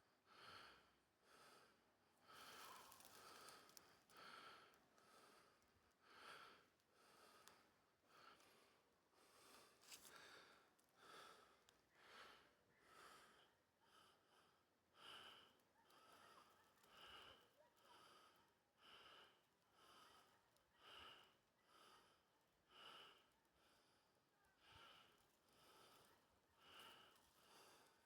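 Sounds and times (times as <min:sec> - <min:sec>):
faint breathing: 0:00.3 - 0:28.0.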